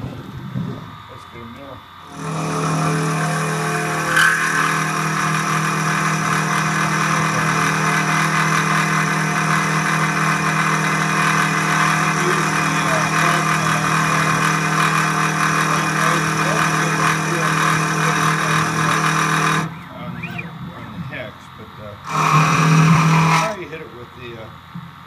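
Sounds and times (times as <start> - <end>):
milling spindle motor running: 0.0 - 25.0
cutter working into steel: 1.2 - 21.2, 22.0 - 24.5.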